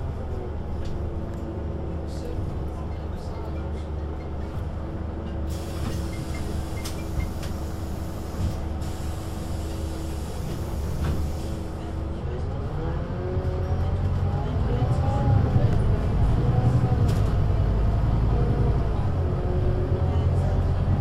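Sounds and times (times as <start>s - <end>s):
bus diesel engine idling: 0.0s - 12.6s, 13.4s - 21.0s.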